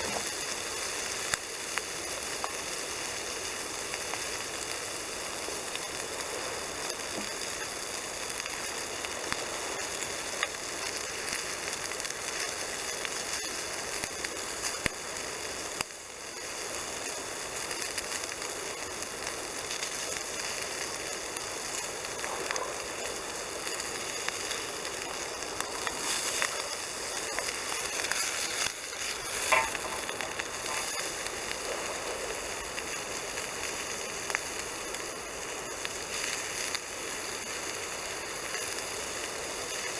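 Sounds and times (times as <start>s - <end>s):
bacon sizzling in a frying pan: 0.0s - 39.9s
campfire crackling: 0.0s - 39.9s.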